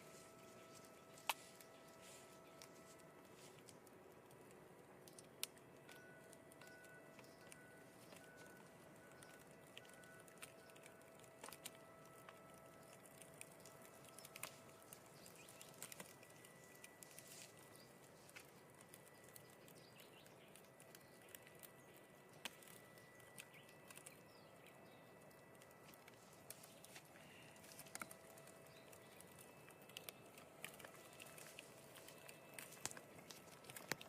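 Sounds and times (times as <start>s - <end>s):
faint steady tones: 0.0s - 34.0s
faint clicks: 0.7s - 34.0s.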